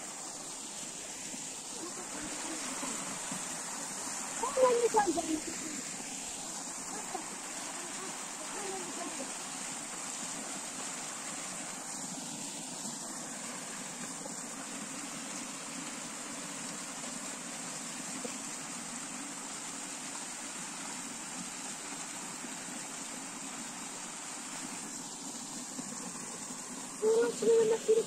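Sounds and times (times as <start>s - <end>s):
water rushing in channel: 0.0s - 28.0s.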